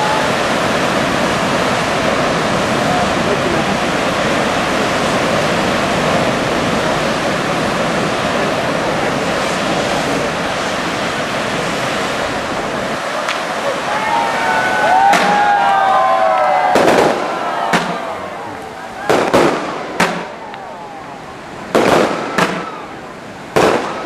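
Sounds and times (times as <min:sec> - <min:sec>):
waves breaking against rocks: 0:00.0 - 0:24.0.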